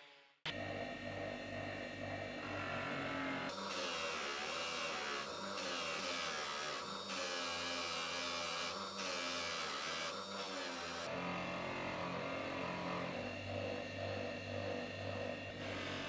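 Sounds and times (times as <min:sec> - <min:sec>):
bench grinder motor whirring: 0:00.5 - 0:16.0.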